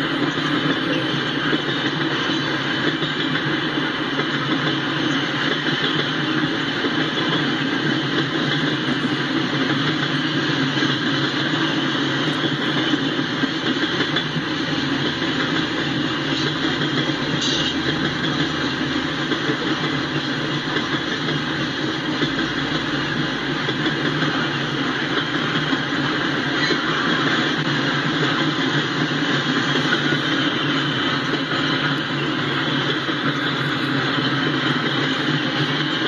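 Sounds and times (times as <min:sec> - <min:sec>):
train wheels on rail: 0:00.0 - 0:36.0.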